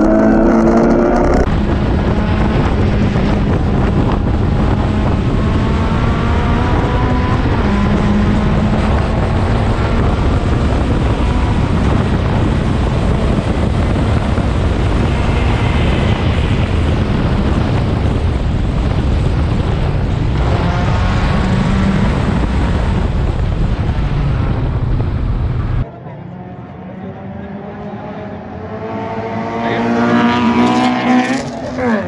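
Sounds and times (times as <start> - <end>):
wind noise on microphone: 0.0 - 25.9, 27.1 - 32.0
race car engine at speed: 0.0 - 32.0.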